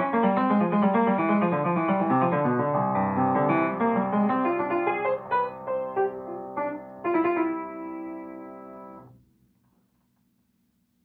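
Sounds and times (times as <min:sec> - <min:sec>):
upright piano chords: 0:00.0 - 0:09.2.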